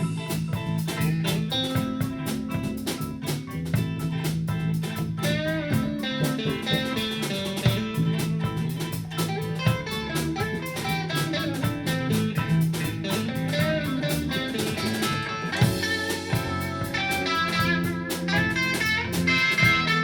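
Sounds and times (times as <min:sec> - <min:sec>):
bass line: 0:00.0 - 0:20.0
guitar: 0:00.0 - 0:20.0
rock band playing: 0:00.0 - 0:20.0.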